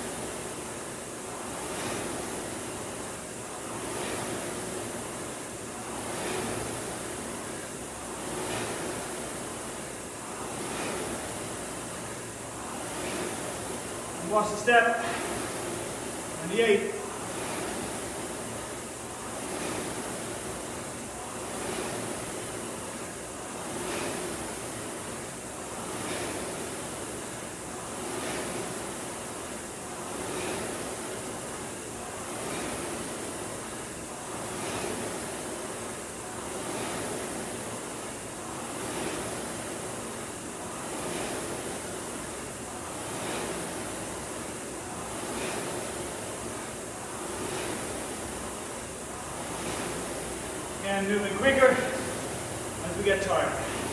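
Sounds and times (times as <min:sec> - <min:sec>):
rowing machine flywheel whooshing: 0:00.0 - 0:53.9.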